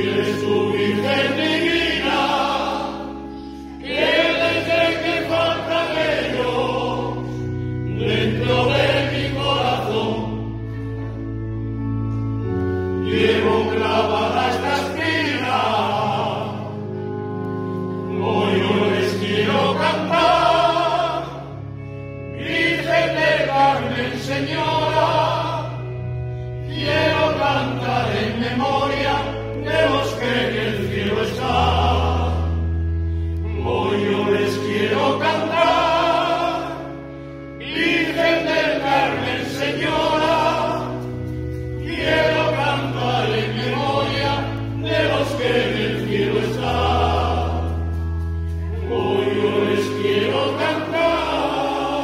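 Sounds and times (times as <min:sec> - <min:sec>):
men's choir singing: 0:00.0 - 0:11.3, 0:12.4 - 0:52.0
electronic keyboard chords: 0:00.0 - 0:52.0.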